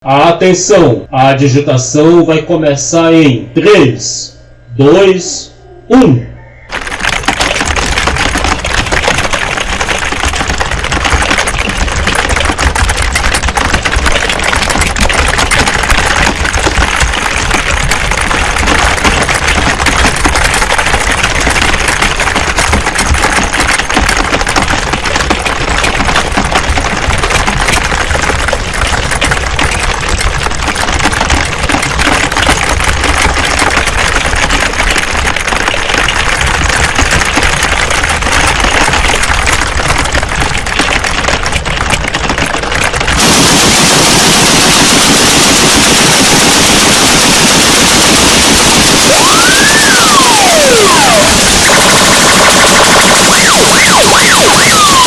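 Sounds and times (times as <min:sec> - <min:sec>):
many keyboards typing: 0:06.7 - 0:55.0.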